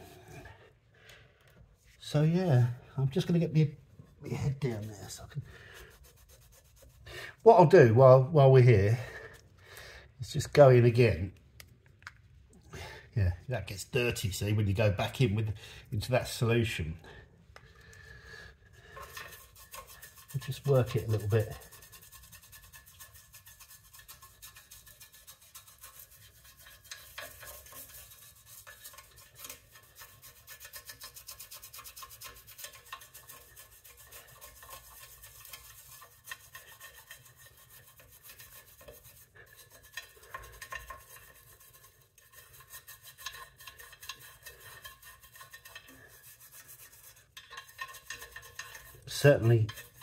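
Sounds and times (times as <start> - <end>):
brush scrubbing metal: 1.8 - 9.5, 13.6 - 17.1, 18.5 - 50.0.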